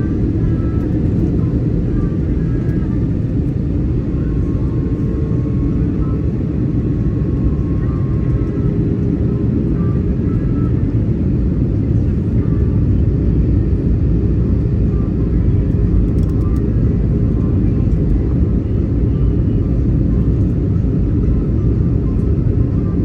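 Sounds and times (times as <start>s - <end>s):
airplane cabin engine noise: 0.0s - 23.0s.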